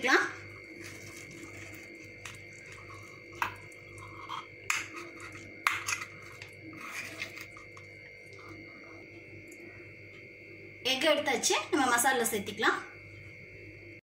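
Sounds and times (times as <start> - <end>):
faint steady high tone: 0.0 - 14.0.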